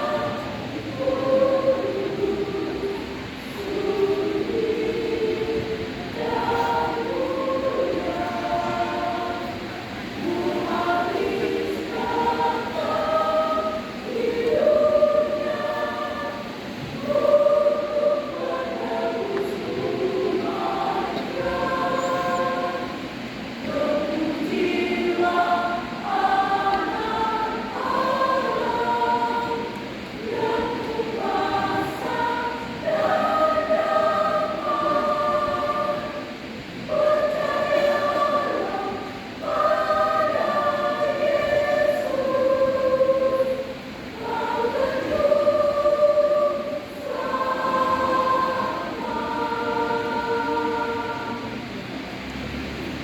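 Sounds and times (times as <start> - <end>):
church choir singing a hymn: 0.0 - 53.0.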